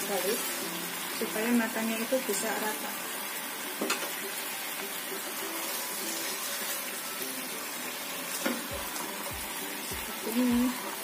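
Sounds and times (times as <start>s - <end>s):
chicken sizzling in sauce: 0.0s - 11.0s.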